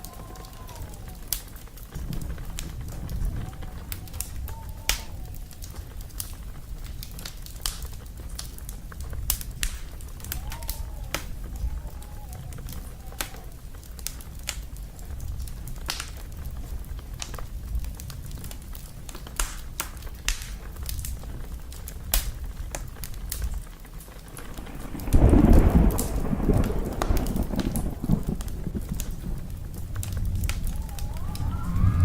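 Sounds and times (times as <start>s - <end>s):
steady rain: 0.0s - 32.0s
thunder rumbling: 0.0s - 32.0s
wood fire crackling: 0.0s - 32.0s.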